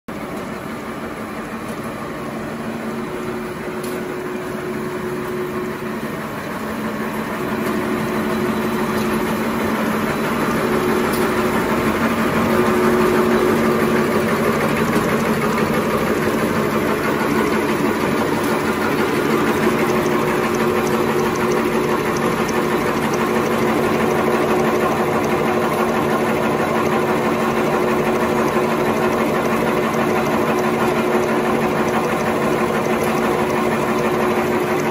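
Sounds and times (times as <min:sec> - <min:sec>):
machine rollers running: 0:00.1 - 0:34.9.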